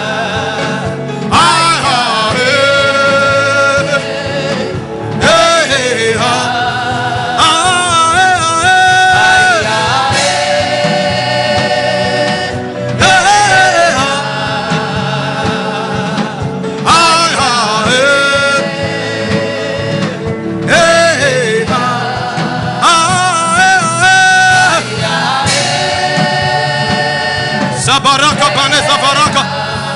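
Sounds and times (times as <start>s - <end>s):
gospel singing lead voice: 0.0s - 29.9s
steady musical accompaniment: 0.0s - 29.9s.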